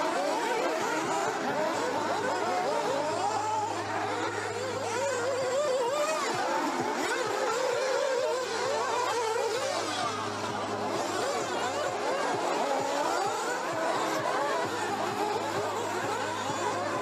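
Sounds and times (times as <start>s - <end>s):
model car engines buzzing: 0.0s - 17.0s.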